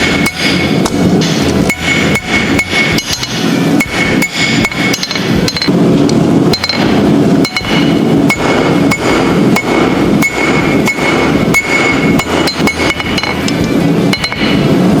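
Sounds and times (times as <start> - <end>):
hammer ringing on anvil: 0.0 - 5.8, 6.5 - 14.8
low rumble: 0.0 - 15.0.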